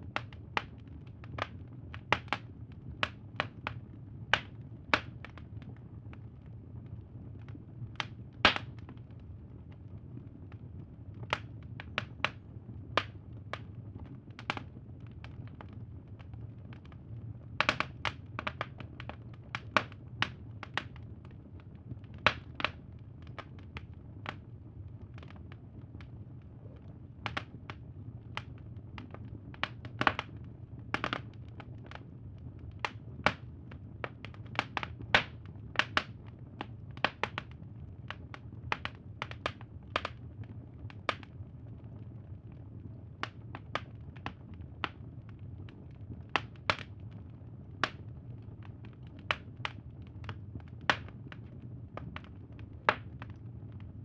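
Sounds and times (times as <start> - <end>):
low background hum: 0.0 - 54.0
wood fire crackling: 0.0 - 54.0.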